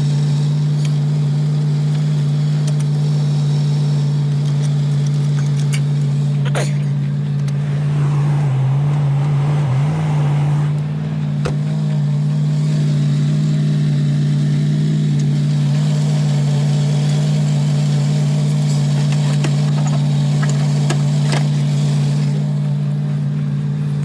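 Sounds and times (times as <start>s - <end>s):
pickup engine running: 0.0s - 24.0s.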